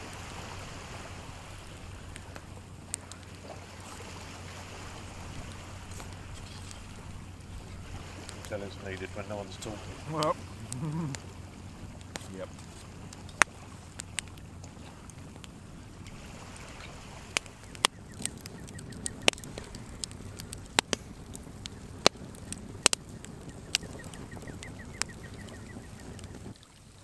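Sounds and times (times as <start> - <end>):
low background rumble: 0.0 - 26.6
campfire crackling and popping: 0.0 - 27.0.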